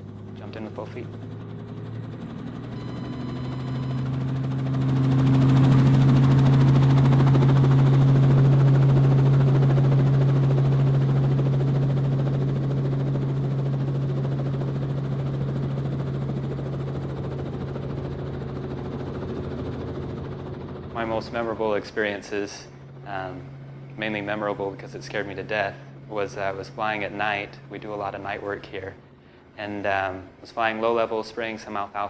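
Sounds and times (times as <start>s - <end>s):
helicopter rotor and engine hum: 0.0s - 32.0s.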